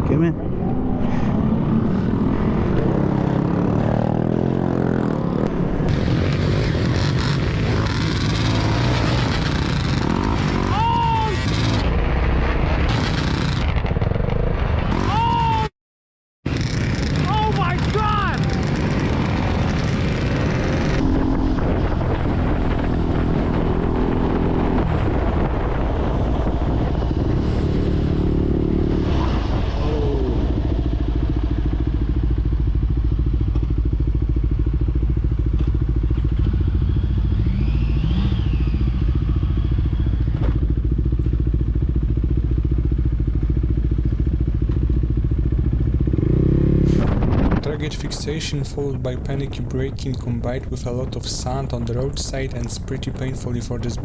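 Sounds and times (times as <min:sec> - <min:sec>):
motorcycle engine running: 0:00.6 - 0:11.8, 0:16.5 - 0:54.0.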